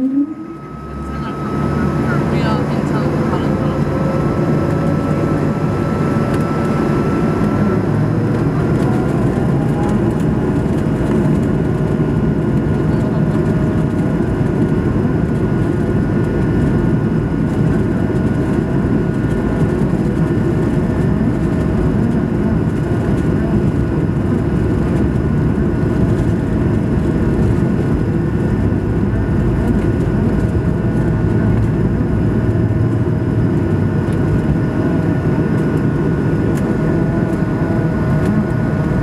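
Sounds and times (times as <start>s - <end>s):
jet engines running at low power: 0.0s - 39.0s.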